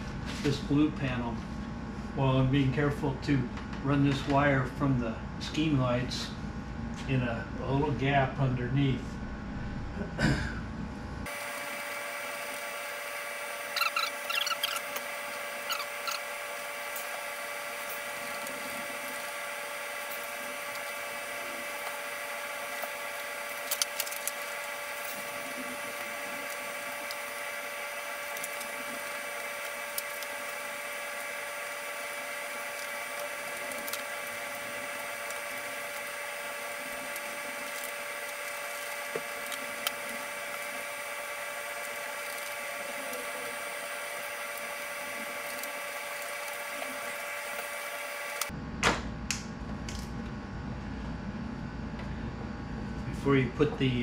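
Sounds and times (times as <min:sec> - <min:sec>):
steady high-pitched hum: 0:00.0 - 0:54.0.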